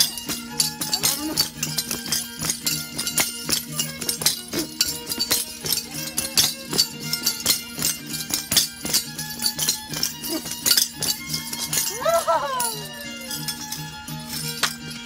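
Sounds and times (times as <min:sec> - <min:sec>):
folk dance melody: 0:00.0 - 0:15.0
jingling rattle percussion: 0:00.0 - 0:15.0.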